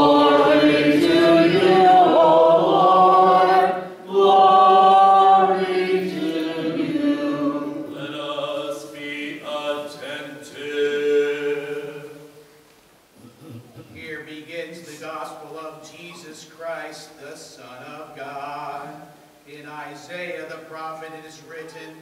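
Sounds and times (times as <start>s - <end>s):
congregation singing a chant: 0.0s - 12.4s, 14.8s - 22.0s.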